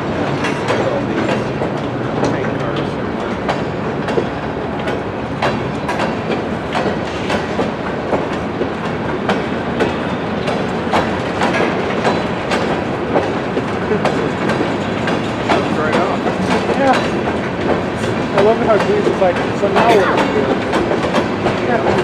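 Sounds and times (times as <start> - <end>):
train rumble: 0.0 - 22.0
train wheels clacking on rails: 0.0 - 22.0.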